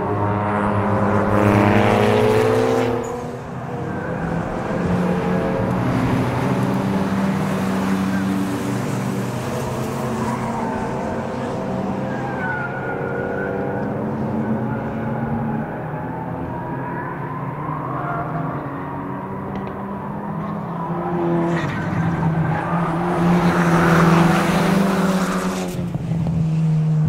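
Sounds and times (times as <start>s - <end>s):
race cars passing: 0.0s - 27.0s.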